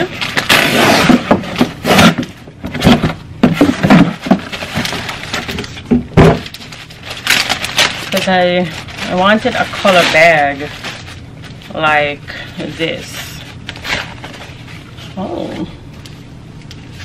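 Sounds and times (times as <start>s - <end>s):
wrapping rustling and crinkling: 0.0s - 17.0s.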